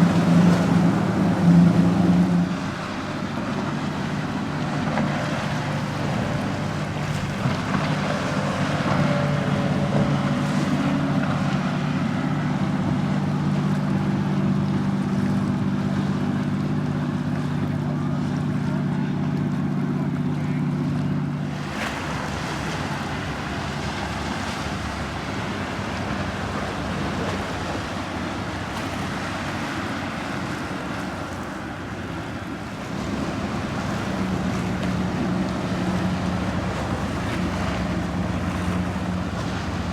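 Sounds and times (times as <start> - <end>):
motorboat engine humming: 0.0 - 39.9
waves: 0.0 - 39.9.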